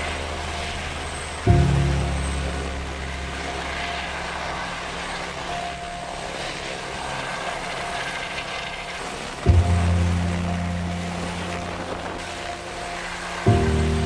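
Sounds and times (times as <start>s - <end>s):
helicopter hovering: 0.0s - 14.0s.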